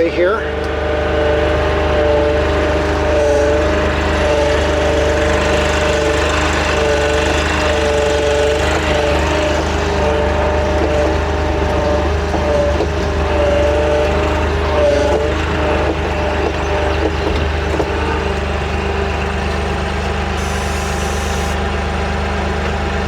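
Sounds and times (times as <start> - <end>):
two-note whine: 0.0 - 21.9
riding lawn mower engine: 0.0 - 23.0.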